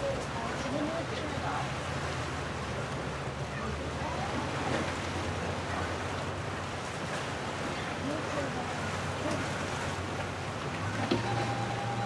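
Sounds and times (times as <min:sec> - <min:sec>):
water rushing and waves: 0:00.0 - 0:12.0.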